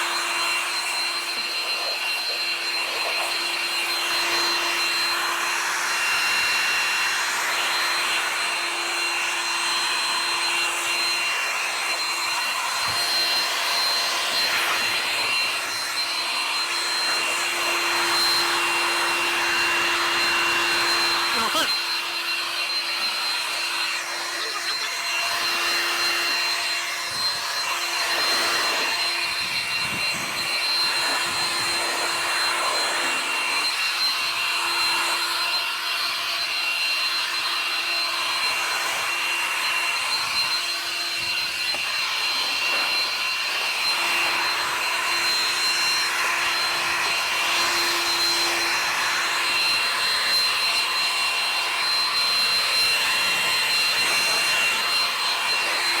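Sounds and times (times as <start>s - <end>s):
small electric motor whining: 0.0s - 56.0s.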